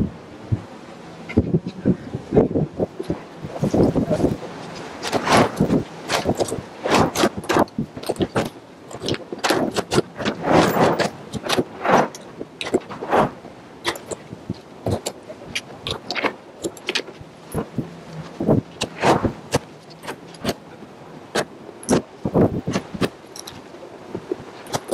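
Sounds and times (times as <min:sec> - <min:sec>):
wooden strips knocking and clattering: 0:02.8 - 0:13.0, 0:13.8 - 0:20.6, 0:21.3 - 0:24.9.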